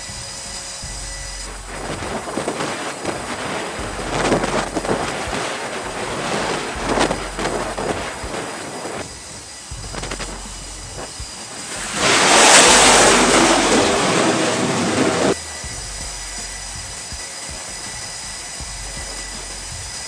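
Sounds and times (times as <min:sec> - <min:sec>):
faint high whine: 0:00.0 - 0:20.0
flight deck rushing roar: 0:00.0 - 0:20.0.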